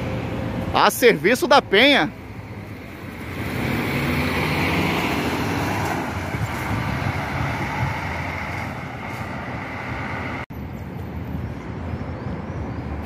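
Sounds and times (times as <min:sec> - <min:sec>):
coach diesel engine rumbling: 0:00.0 - 0:10.5
second coach engine: 0:00.0 - 0:10.9.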